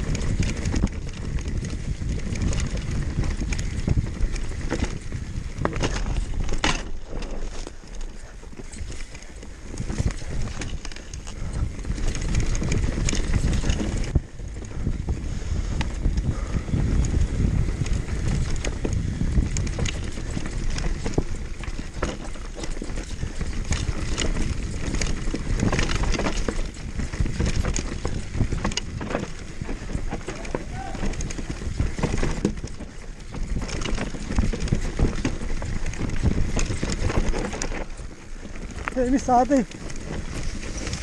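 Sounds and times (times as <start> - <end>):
bike rattling: 0.0 - 41.0
tyres rumbling over dirt and rocks: 0.0 - 41.0
wind on microphone: 0.0 - 41.0.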